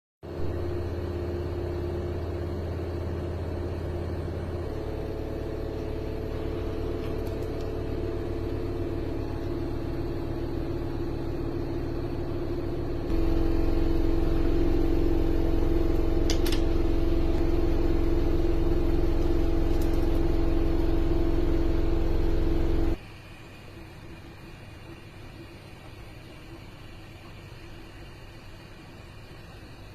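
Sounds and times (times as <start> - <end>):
steady machine hum: 0.2 - 29.9.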